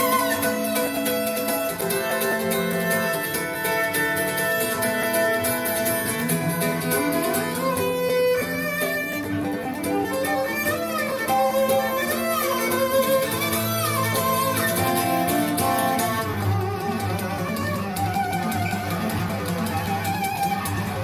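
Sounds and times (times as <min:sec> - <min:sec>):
fiddle playing: 0:00.0 - 0:21.0
guitar: 0:00.0 - 0:21.0.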